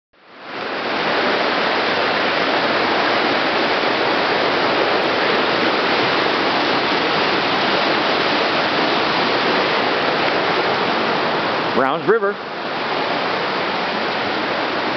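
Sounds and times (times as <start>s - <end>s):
river rapids rushing: 0.2s - 14.9s.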